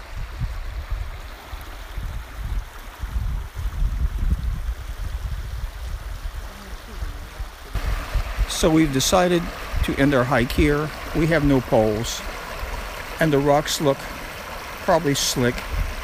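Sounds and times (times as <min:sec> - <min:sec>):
creek running over rocks: 0:00.0 - 0:16.0.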